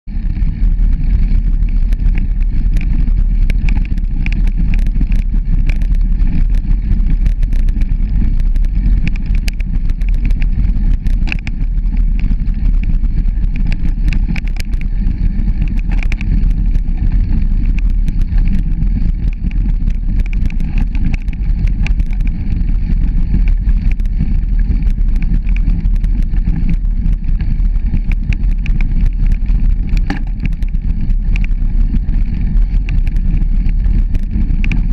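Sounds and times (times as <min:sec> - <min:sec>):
wind on microphone: 0:00.0 - 0:34.9
bicycle clicks and rattles: 0:00.1 - 0:34.9
tyres rolling on dirt path: 0:00.1 - 0:34.9.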